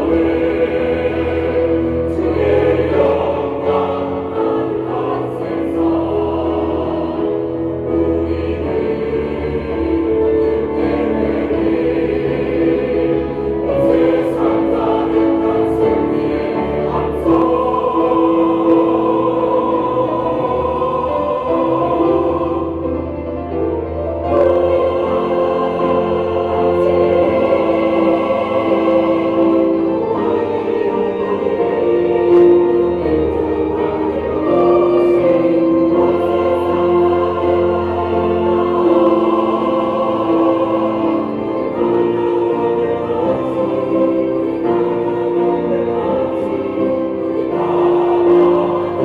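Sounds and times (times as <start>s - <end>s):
church choir singing: 0.0s - 49.0s.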